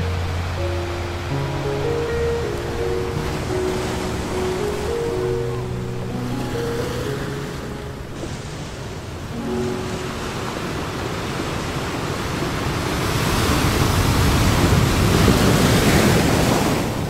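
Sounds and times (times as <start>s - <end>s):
ocean surf on beach: 0.0s - 17.0s.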